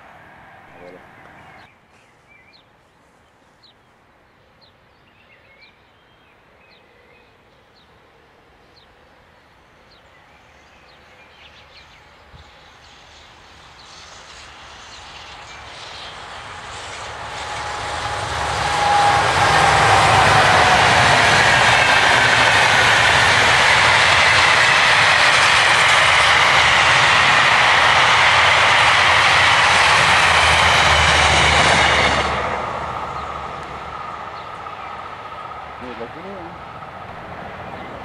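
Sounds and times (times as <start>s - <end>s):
train rumble and wheel-on-rail noise: 0.0s - 1.9s, 3.5s - 38.0s.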